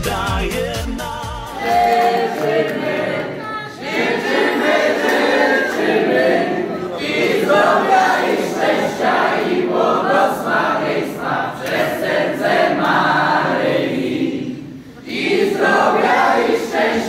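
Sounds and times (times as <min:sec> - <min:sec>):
people singing in unison: 0:00.0 - 0:17.0.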